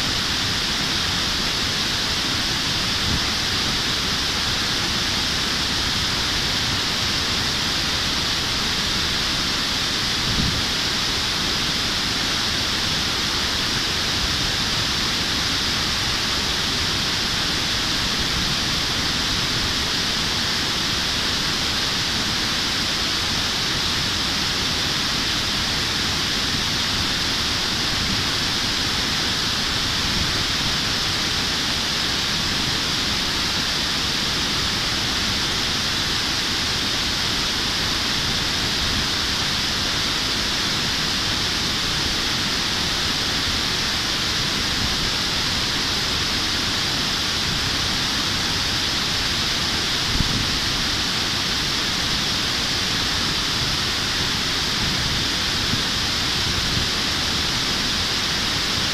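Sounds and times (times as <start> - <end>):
river rushing over weir: 0.0 - 58.9.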